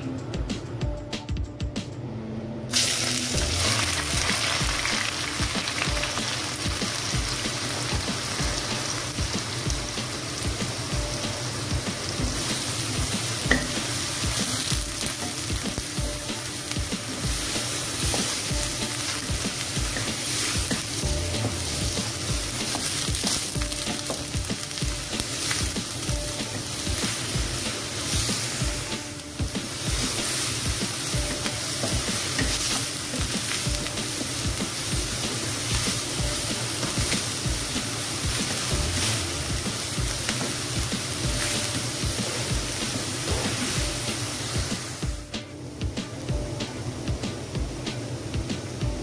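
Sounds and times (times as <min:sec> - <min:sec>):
onions sizzling in hot oil: 0:02.7 - 0:49.0.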